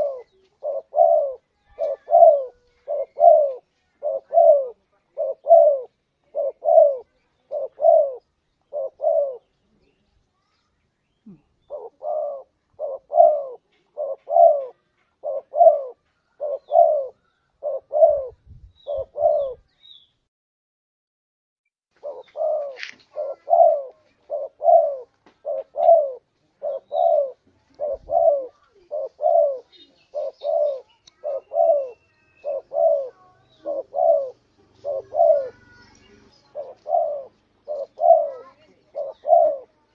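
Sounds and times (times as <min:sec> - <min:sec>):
dove cooing: 0:00.0 - 0:09.6, 0:11.3 - 0:19.7, 0:22.0 - 0:39.9.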